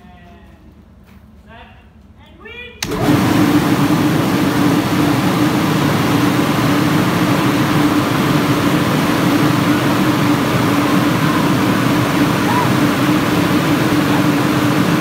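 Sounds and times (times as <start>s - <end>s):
loud mechanical drone: 2.8s - 15.0s.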